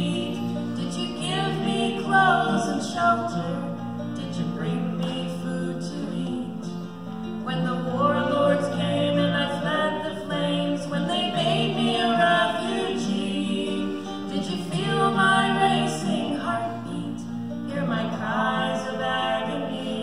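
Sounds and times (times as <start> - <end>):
woman and man singing: 0.0 - 6.8, 7.5 - 20.0
acoustic guitar: 0.0 - 20.0.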